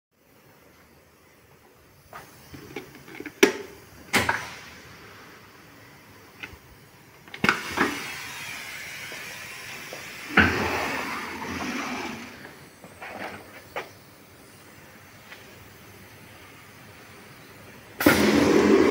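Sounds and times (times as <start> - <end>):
machine hissing: 1.2 - 18.9.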